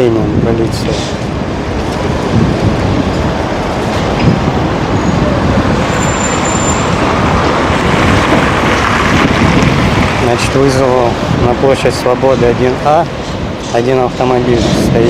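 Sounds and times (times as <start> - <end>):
traffic driving past: 0.3 - 15.0.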